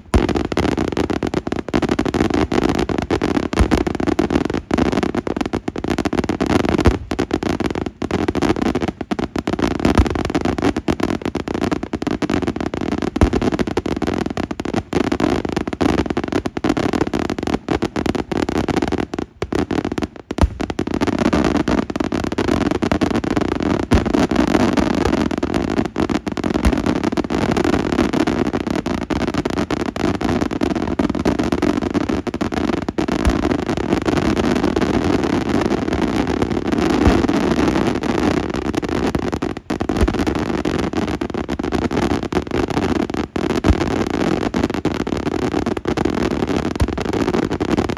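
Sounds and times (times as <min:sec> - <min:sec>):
fireworks banging and crackling: 0:00.0 - 0:47.9.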